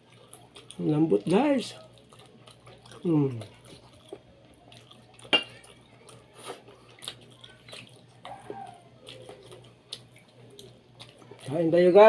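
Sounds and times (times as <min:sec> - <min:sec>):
chewing mouth sounds: 0:00.0 - 0:11.6.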